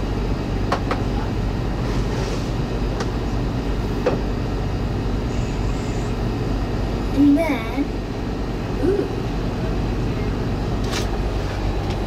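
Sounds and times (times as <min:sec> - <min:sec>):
boat engines rumbling: 0:00.0 - 0:12.0.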